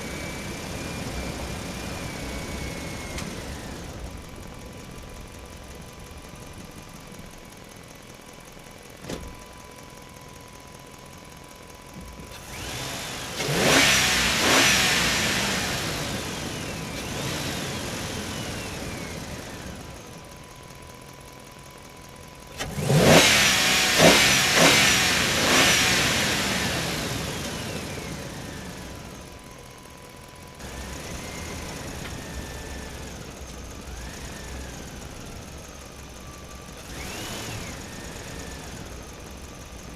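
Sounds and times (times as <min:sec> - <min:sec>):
excavator engine: 0:00.0 - 0:39.9.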